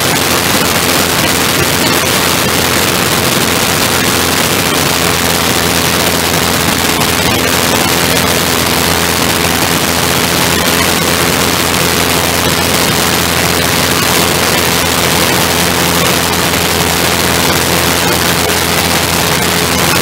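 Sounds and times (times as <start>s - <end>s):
small craft engine running: 0.0s - 20.0s.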